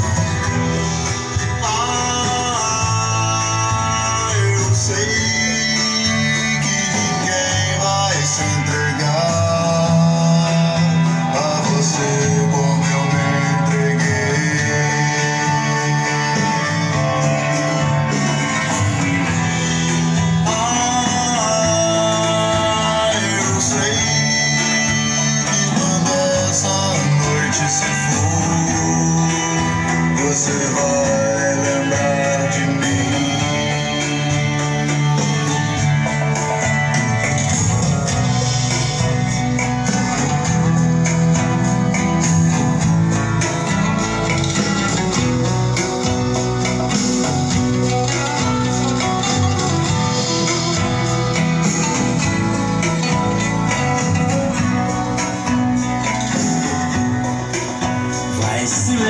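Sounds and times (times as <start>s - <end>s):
guitar-led recorded song: 0.0s - 59.0s.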